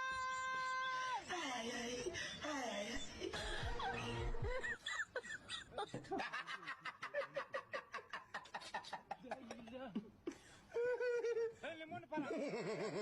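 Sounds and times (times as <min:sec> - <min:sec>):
people giggling: 0:01.7 - 0:11.6, 0:12.2 - 0:13.0.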